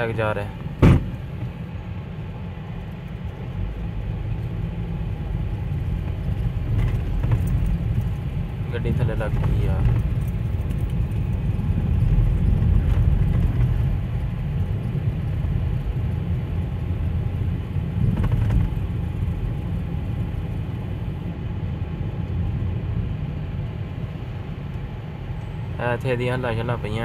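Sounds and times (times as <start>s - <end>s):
low vehicle rumble: 0.0s - 27.0s.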